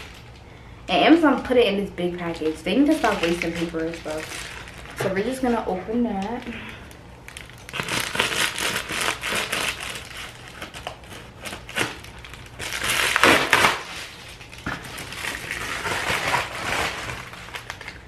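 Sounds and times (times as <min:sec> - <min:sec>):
packaging crinkling and tearing: 0:00.0 - 0:00.4, 0:02.4 - 0:18.0.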